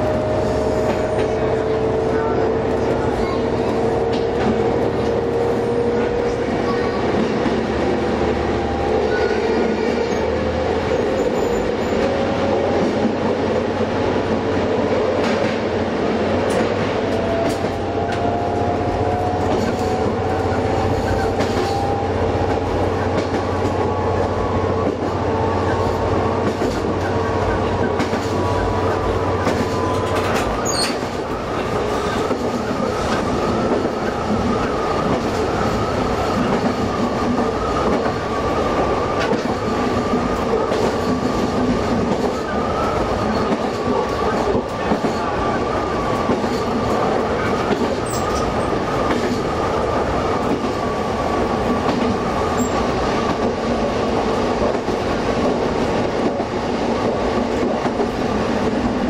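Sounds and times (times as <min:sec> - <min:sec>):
railcar engine drone with whine: 0:00.0 - 0:59.0
wheels rumbling on rail: 0:00.0 - 0:59.0.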